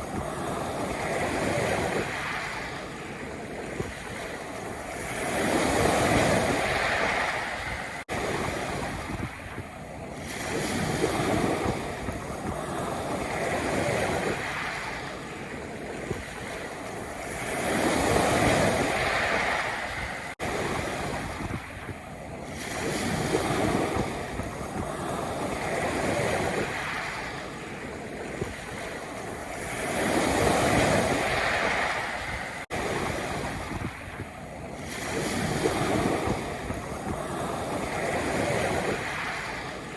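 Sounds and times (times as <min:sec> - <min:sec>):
waves on a pebble beach: 0:00.0 - 0:39.9.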